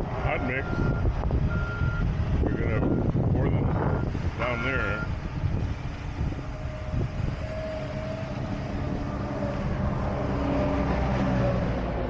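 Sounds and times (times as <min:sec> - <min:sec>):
diesel truck engines rumbling: 0:00.0 - 0:12.0.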